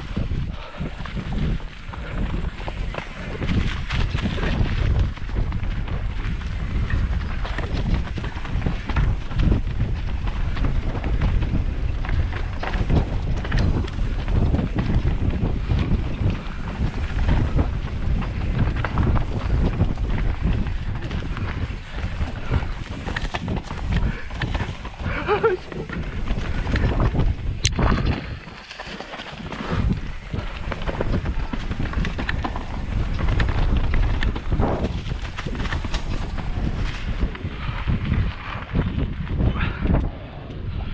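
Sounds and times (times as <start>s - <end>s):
bike knocks and rattles: 0.0s - 39.4s
wind buffeting microphone: 0.0s - 40.9s.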